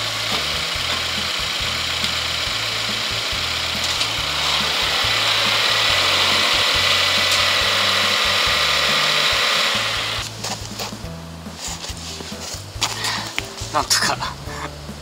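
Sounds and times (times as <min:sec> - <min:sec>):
car engine running with hiss: 0:00.0 - 0:15.0.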